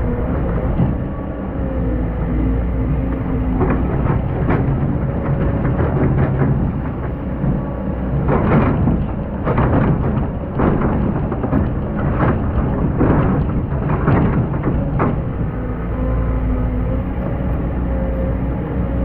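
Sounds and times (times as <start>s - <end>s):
excavator diesel engine droning: 0.0s - 19.0s.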